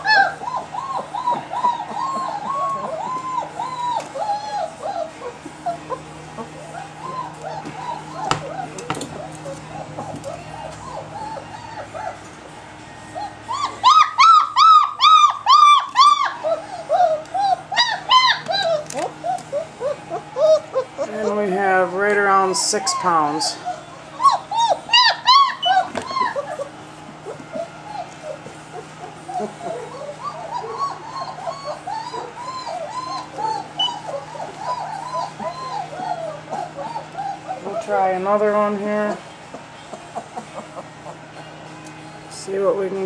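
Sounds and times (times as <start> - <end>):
puppy whining and whimpering: 0.0 - 42.2.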